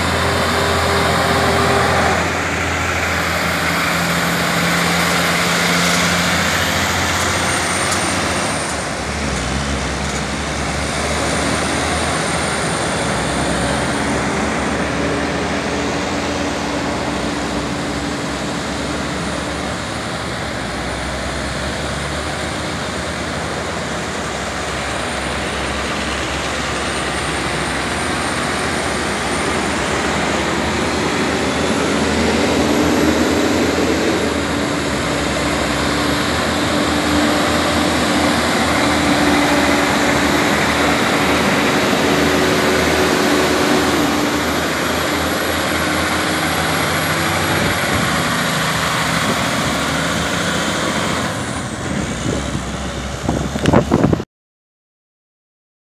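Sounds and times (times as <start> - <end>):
road noise: 0.0 - 54.2
truck diesel engines working uphill: 0.0 - 54.2.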